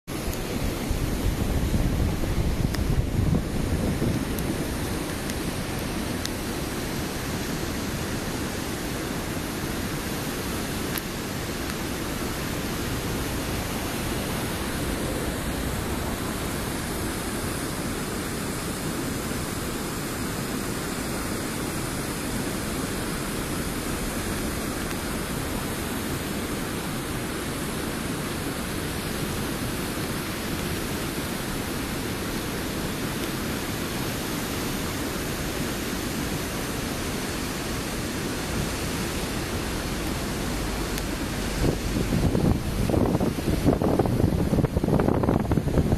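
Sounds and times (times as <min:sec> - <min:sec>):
waterfall rushing: 0:00.1 - 0:45.9.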